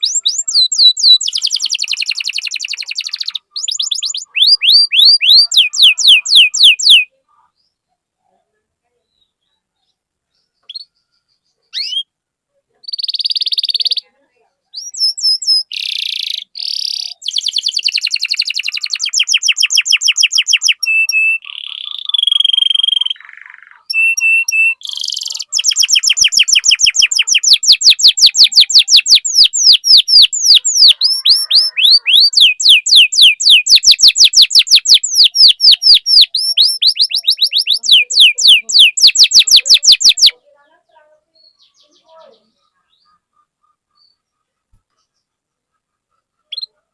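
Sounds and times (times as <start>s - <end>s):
canary singing and trilling: 0.0s - 46.9s.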